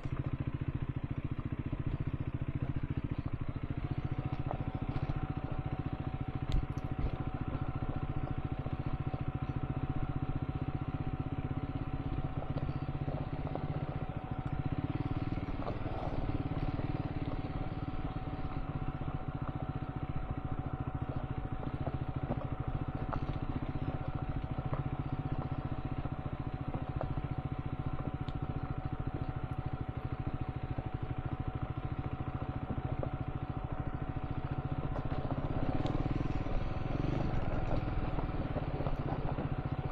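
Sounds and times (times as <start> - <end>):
faint ticks: 0.0 - 39.9
motorcycle engine running: 0.0 - 39.9
thin steady whine: 0.0 - 39.9.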